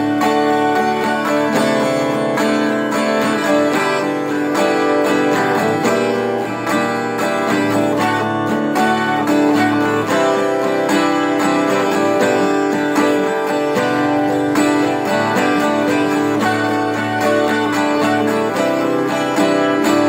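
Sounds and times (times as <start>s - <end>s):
guitar strumming and picking: 0.0s - 20.0s.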